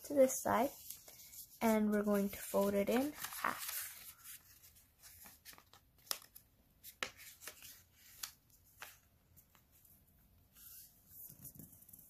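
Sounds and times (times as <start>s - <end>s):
paper rustling: 0.6s - 12.0s.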